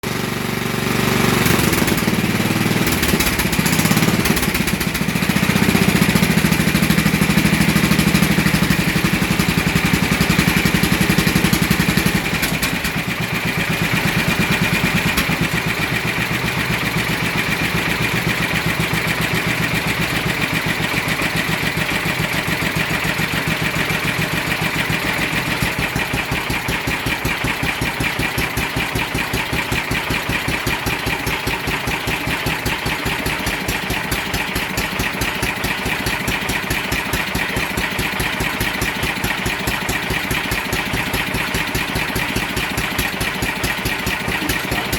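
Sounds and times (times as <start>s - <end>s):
garden tractor engine running: 0.0s - 44.9s.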